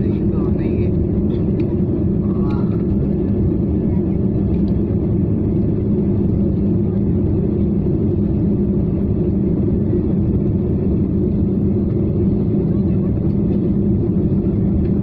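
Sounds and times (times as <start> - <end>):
jet cabin engine drone: 0.0 - 15.0
low hum: 0.0 - 15.0.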